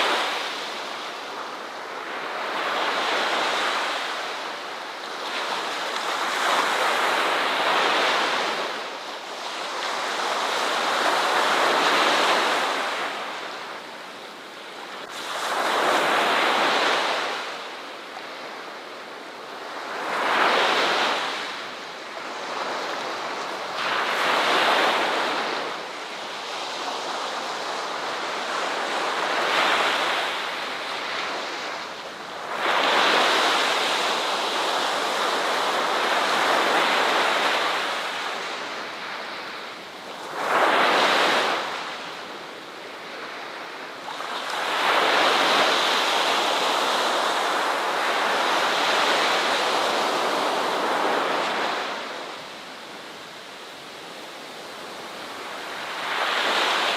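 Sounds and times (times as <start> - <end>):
ocean surf breaking on shore: 0.0 - 56.9.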